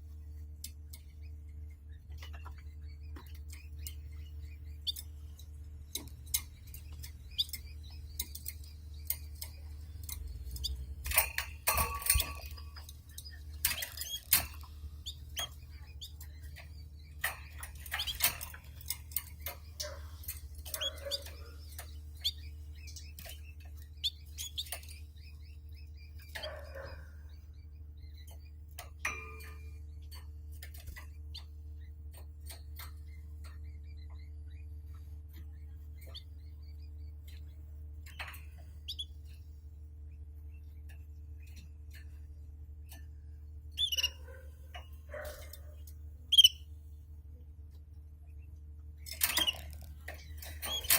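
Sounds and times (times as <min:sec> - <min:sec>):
canaries clicking and tapping: 0:00.0 - 0:50.9
canary chirps: 0:00.0 - 0:50.9
low electrical hum: 0:00.0 - 0:50.9.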